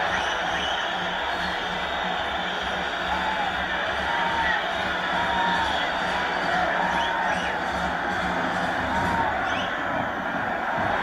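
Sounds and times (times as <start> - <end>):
crowd noise in sports hall: 0.0 - 11.0.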